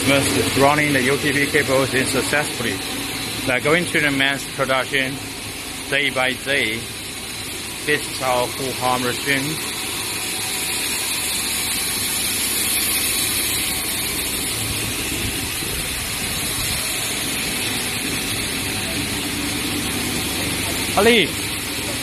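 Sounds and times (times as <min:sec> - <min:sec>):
steady machine noise: 0:00.0 - 0:22.0.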